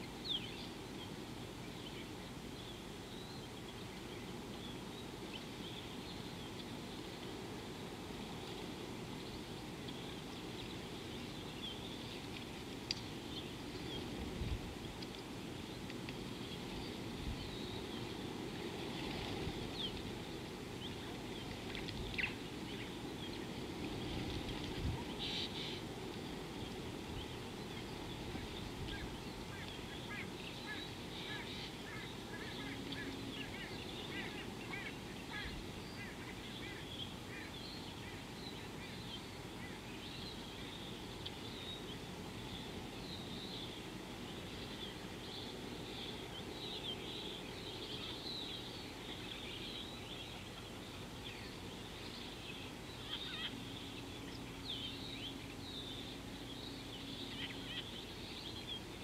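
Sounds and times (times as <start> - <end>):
background hiss: 0.0 - 59.0
birds chirping: 0.0 - 59.0
faint low hum: 0.0 - 59.0.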